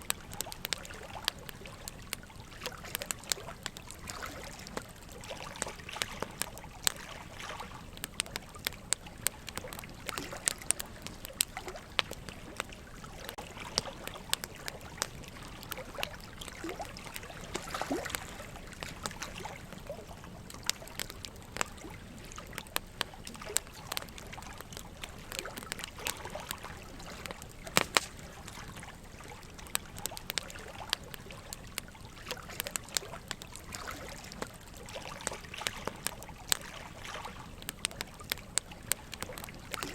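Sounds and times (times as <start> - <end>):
running water trickling: 0.0 - 39.9
wood fire crackling: 0.0 - 39.9.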